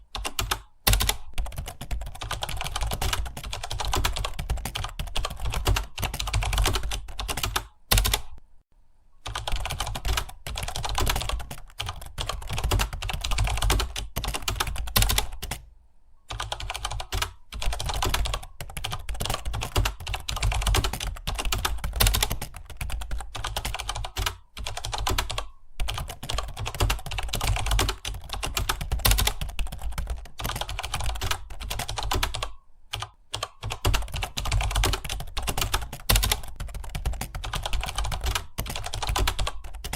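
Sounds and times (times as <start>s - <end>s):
fast keyboard typing: 0.0s - 8.4s, 9.2s - 15.7s, 16.3s - 39.9s.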